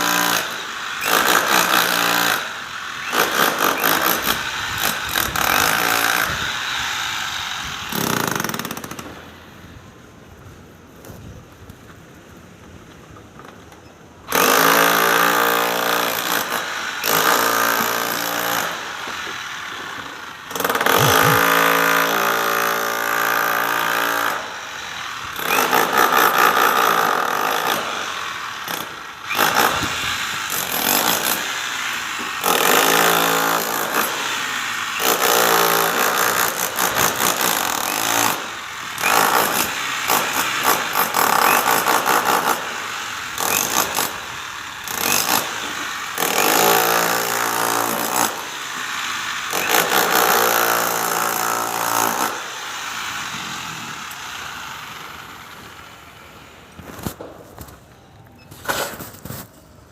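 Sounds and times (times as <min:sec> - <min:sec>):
hammer drill running: 0:00.0 - 0:09.2, 0:14.3 - 0:56.1.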